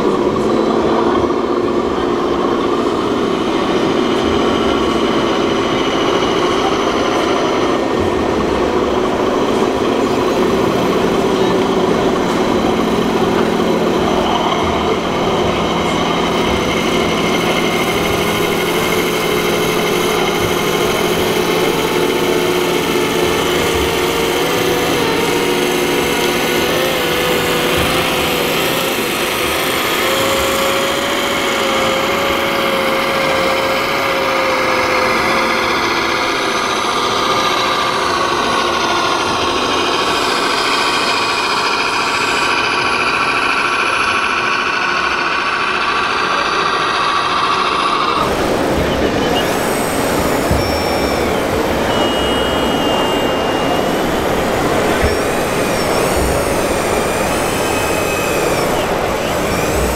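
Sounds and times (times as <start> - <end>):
toy truck motors whining: 0.0 - 59.9.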